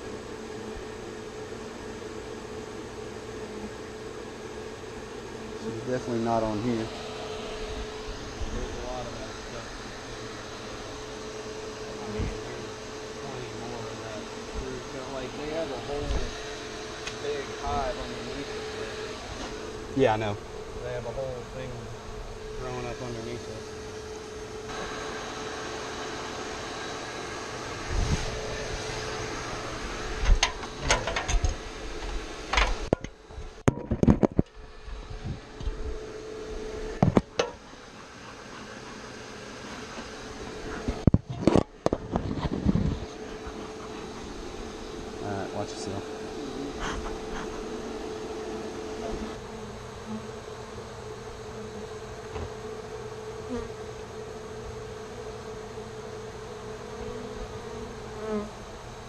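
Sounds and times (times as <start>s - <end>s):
bees buzzing: 0.0s - 30.9s, 34.9s - 59.0s
vacuum humming: 0.0s - 59.0s.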